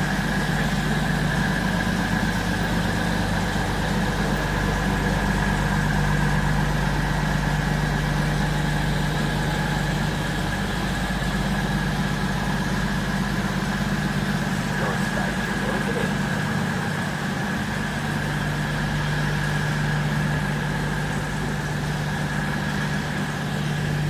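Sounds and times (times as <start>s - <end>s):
diesel train engine humming: 0.0s - 24.0s.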